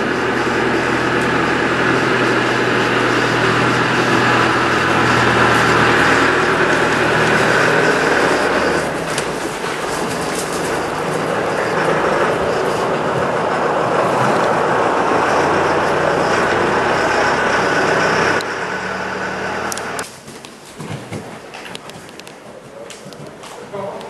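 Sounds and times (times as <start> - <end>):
loud mechanical drone: 0.0 - 20.0
low hum: 0.0 - 20.0.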